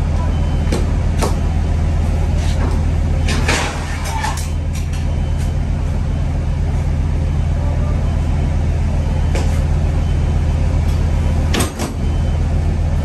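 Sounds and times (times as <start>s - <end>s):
diesel engine idling: 0.0s - 3.3s, 4.6s - 13.0s.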